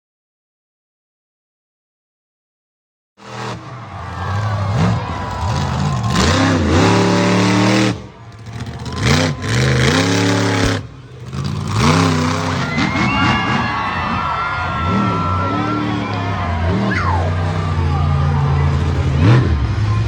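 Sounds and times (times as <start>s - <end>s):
truck engine revving: 3.2s - 20.0s.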